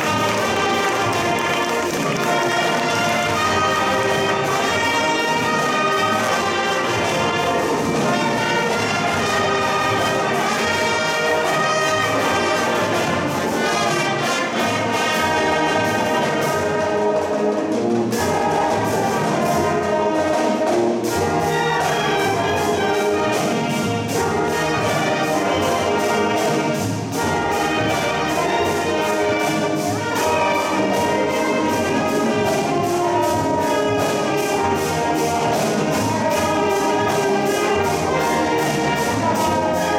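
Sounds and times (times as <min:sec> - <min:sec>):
marching band playing: 0:00.0 - 0:39.9.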